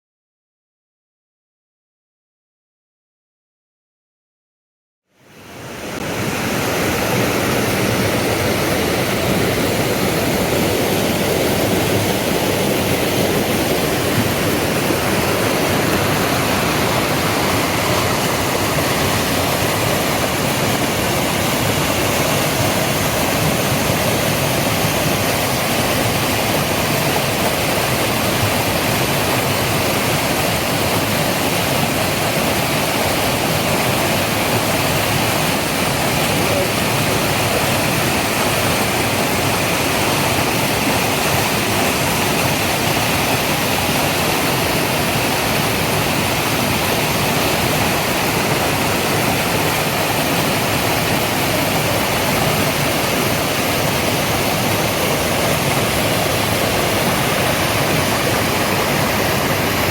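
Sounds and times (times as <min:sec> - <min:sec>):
waterfall rushing: 0:05.3 - 0:59.9.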